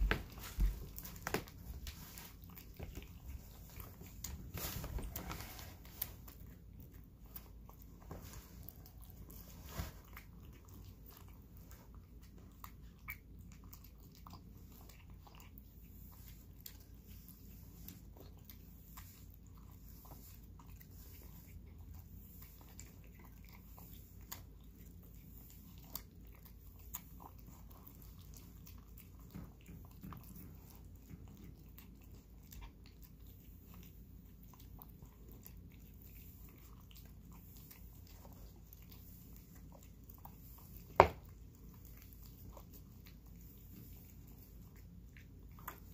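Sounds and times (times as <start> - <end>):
cat chewing and lapping food: 0.0 - 45.9.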